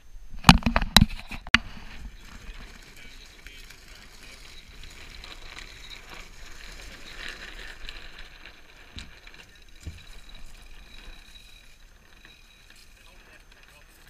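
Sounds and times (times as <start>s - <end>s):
trolley rolling over gravel: 1.1s - 14.0s.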